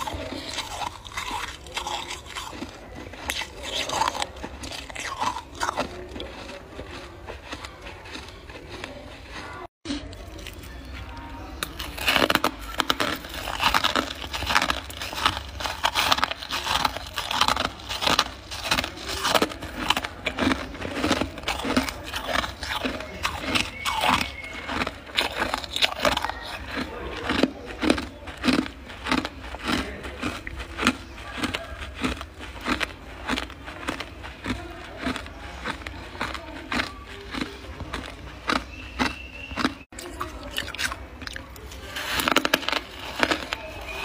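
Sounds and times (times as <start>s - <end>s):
chewing crunchy frost: 0.0s - 44.0s.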